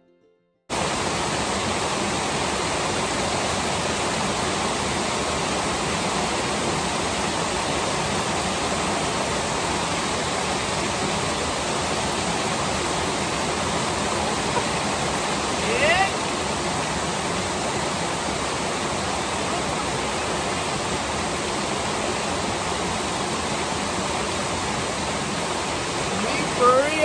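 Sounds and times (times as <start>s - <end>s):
waterfall rushing water: 0.7s - 27.0s.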